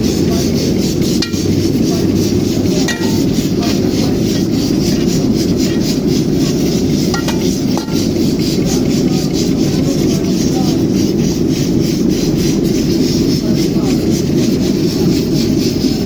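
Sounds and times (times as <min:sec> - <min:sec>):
spatula scraping metal pan: 0:00.0 - 0:16.0.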